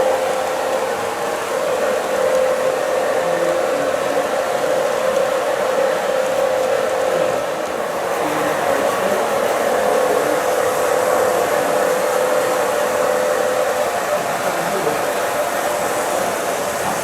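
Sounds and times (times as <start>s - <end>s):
model train whirring hiss: 0.0s - 17.0s.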